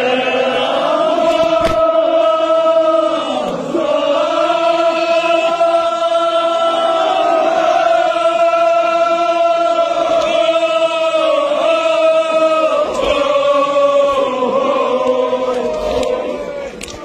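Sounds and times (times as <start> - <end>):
men chanting a slow lament: 0.0 - 17.0.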